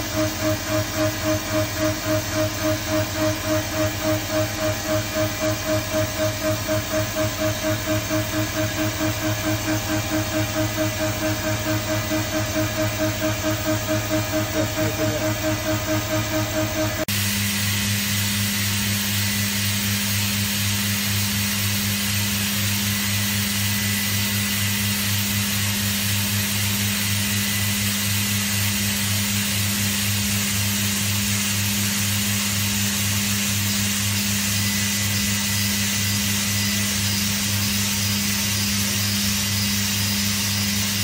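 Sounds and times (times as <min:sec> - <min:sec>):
milling machine running: 0:00.0 - 0:30.4, 0:31.4 - 0:41.0.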